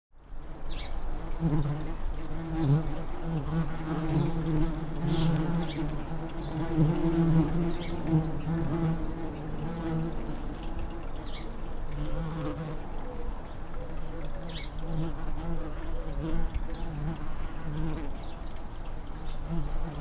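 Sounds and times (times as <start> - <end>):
bumblebees buzzing: 0.5 - 20.0.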